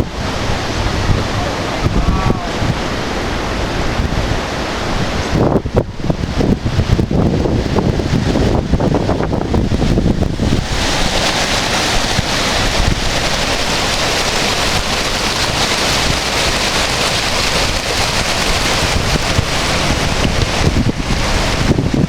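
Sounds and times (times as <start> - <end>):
fast water rushing: 0.0 - 22.0
wind buffeting microphone: 0.0 - 22.0.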